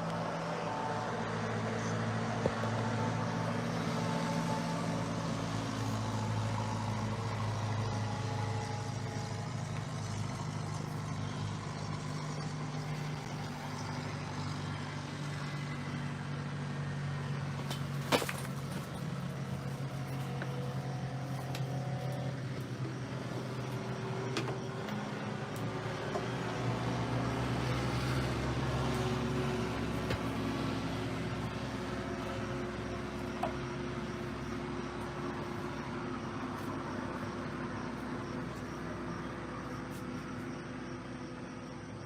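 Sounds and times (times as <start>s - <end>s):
engine hum: 0.0s - 42.0s.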